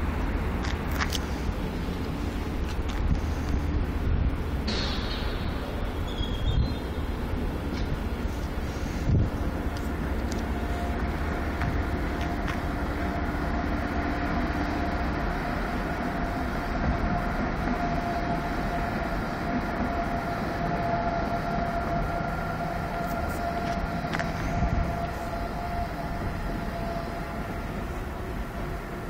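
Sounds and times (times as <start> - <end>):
thin steady whine: 0.0 - 29.0
train rumbling: 0.0 - 29.0.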